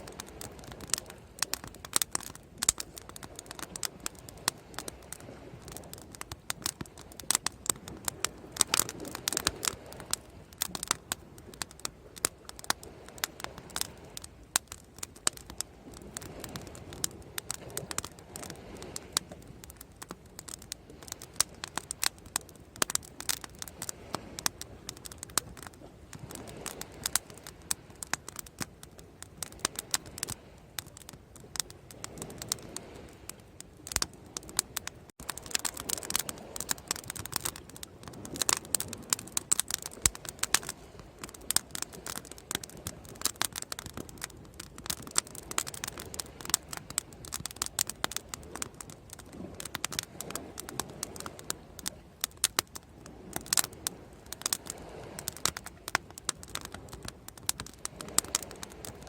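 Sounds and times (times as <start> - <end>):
soft rushing of fire: 0.0 - 59.0
wood fire crackling and popping: 0.0 - 59.0.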